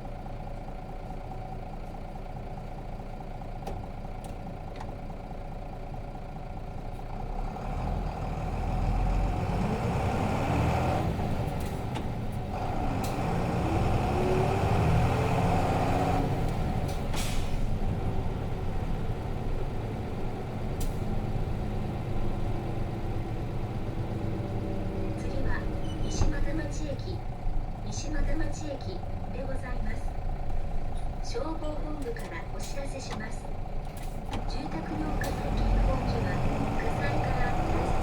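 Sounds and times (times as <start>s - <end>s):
bus diesel engine: 0.0s - 38.0s.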